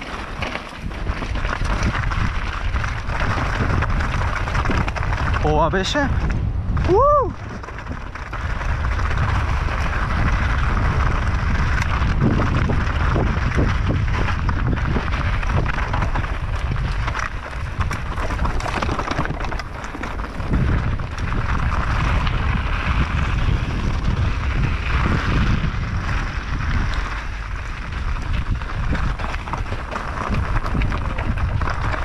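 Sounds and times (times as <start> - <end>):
bike clicks and rattles: 0.0 - 32.0
tyres crunching over stones: 0.0 - 32.0
wind rumble on microphone: 0.0 - 32.0.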